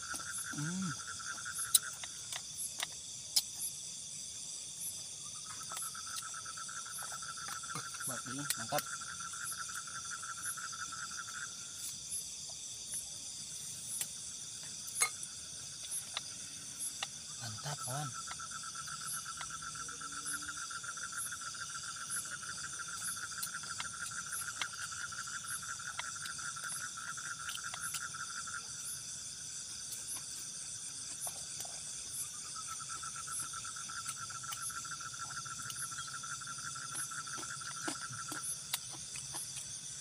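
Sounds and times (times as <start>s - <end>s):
frogs calling: 0.0s - 3.8s, 4.8s - 40.0s.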